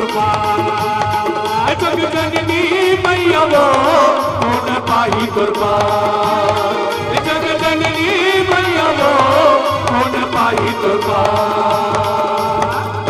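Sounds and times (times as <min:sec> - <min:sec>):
man singing folk song: 0:00.0 - 0:13.0
percussion beat: 0:00.0 - 0:13.0.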